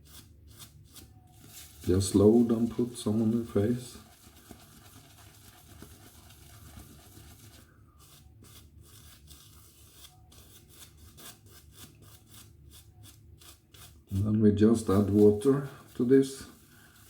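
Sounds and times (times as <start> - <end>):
shaving brush swishing lather: 0.0 - 17.0.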